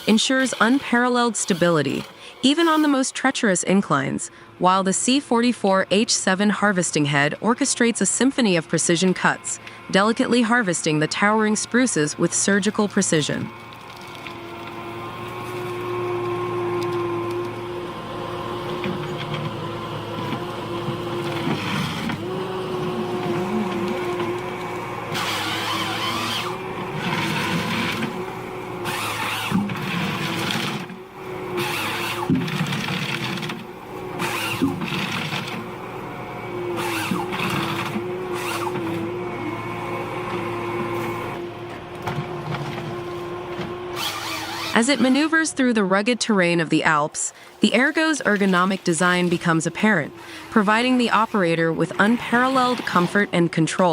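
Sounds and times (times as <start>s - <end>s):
harvester engine and hydraulics whine: 0.0s - 53.9s.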